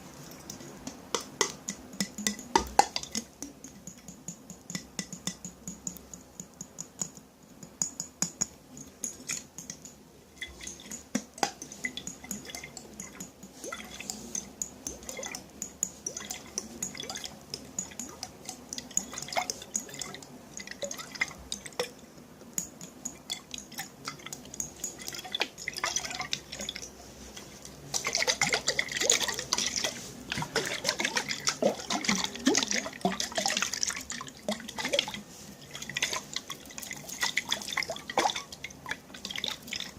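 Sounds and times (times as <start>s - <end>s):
water dripping into a container: 0.0s - 39.9s.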